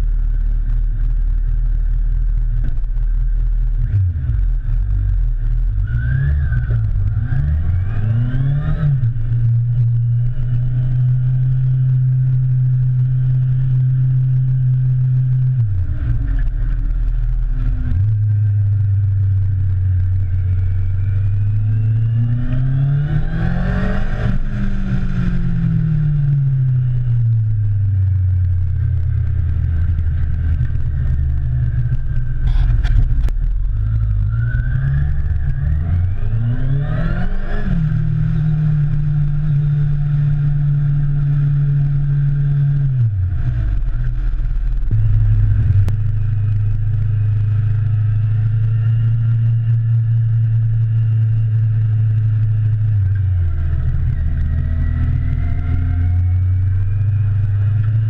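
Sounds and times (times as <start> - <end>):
steady rush of noise: 0.0 - 58.0
motorcycle engine revving: 2.4 - 58.0.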